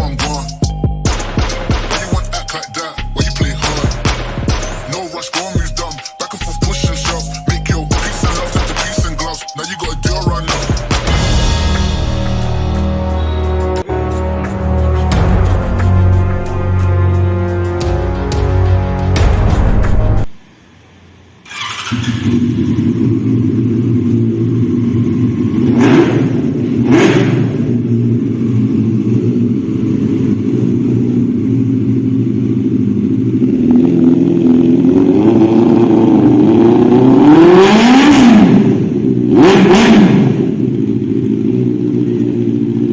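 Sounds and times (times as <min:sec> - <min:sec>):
motorcycle engine idling and revving: 0:00.0 - 0:19.7, 0:21.4 - 0:42.9.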